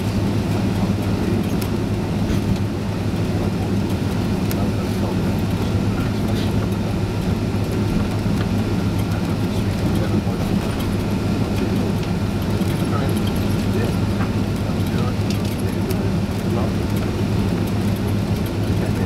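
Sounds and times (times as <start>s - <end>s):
aircraft engines humming: 0.0s - 19.0s
light cabin rattles: 0.0s - 19.0s.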